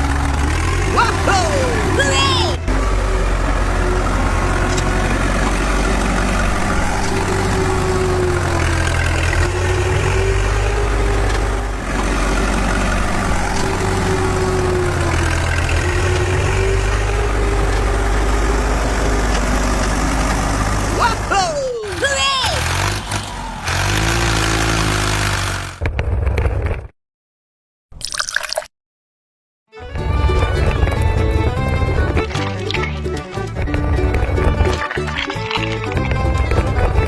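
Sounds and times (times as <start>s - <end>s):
heavy truck engine rumbling: 0.0s - 26.6s, 29.8s - 37.0s.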